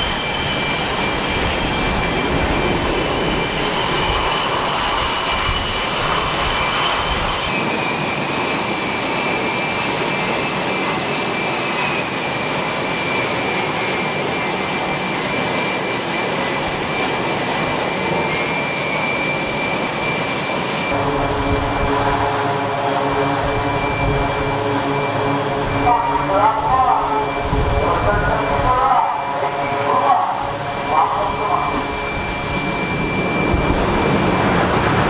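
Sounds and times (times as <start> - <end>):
high jet whine: 0.0 - 35.0
jet engines roaring: 0.0 - 35.0.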